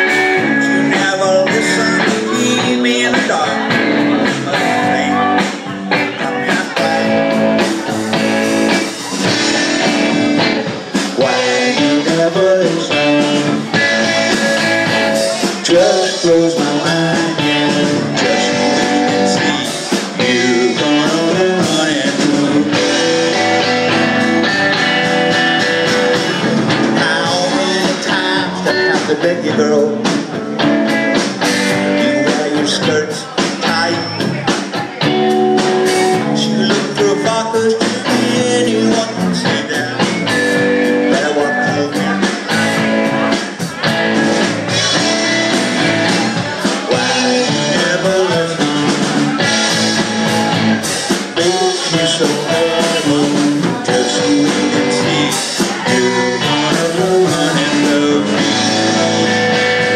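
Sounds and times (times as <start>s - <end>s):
lead guitar bending notes: 0.0s - 59.9s
live rock band playing: 0.0s - 59.9s.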